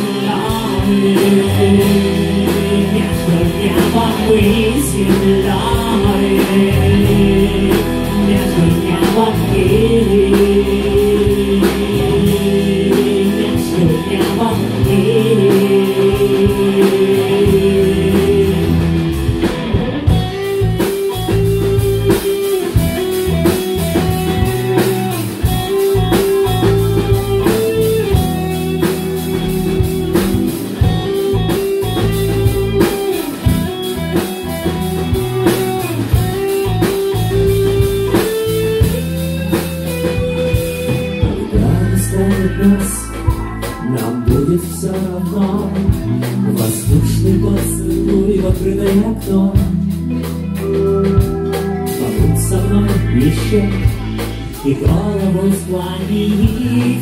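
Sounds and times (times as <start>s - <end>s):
sustained melody line: 0.0s - 56.9s
drum kit: 0.0s - 57.0s
keyboards: 0.0s - 57.0s.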